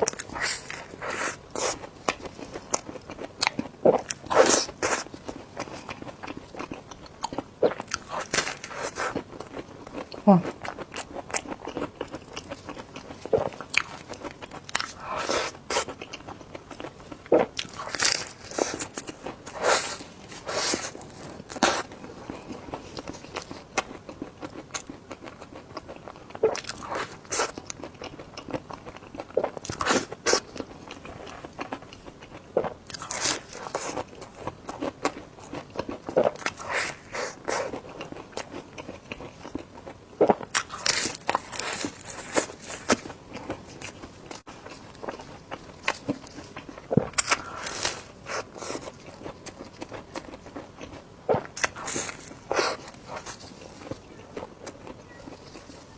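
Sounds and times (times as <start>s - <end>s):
person biting and chewing food: 0.0s - 55.8s.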